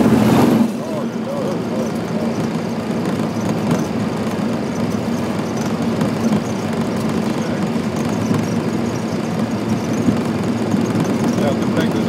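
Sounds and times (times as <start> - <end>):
airplane rumble and roar: 0.0 - 12.0.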